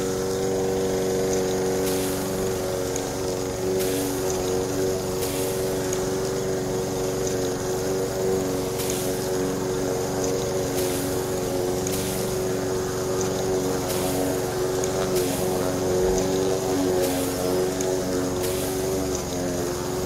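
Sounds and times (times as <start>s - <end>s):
small electric motor droning: 0.0s - 20.0s.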